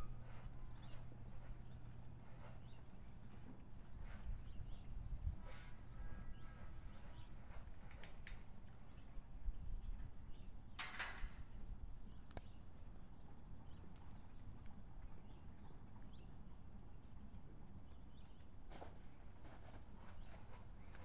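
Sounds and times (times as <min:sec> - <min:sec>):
faint hoofbeats on dirt: 0:00.0 - 0:10.6, 0:11.4 - 0:21.0.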